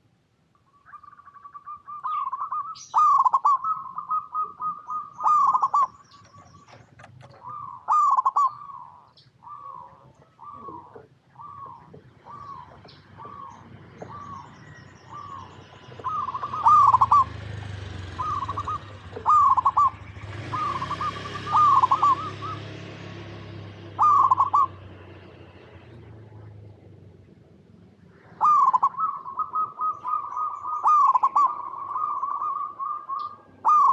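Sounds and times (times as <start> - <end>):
doves cooing: 0.7 - 33.9.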